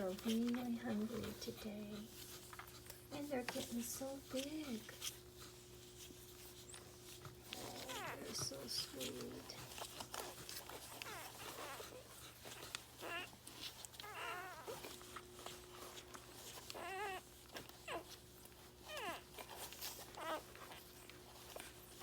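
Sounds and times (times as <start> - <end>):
puppies squeaking and whimpering: 0.0 - 22.0.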